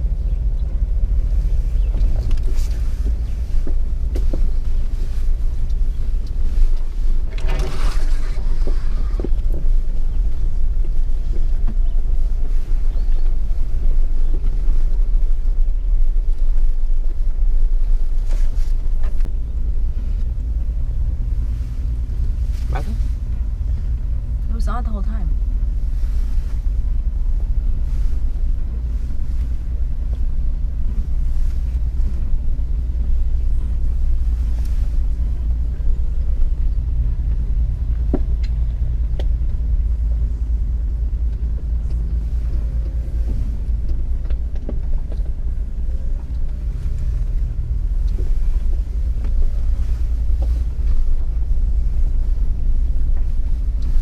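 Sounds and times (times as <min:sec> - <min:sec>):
car engine rumbling inside cabin: 0:00.0 - 0:54.0.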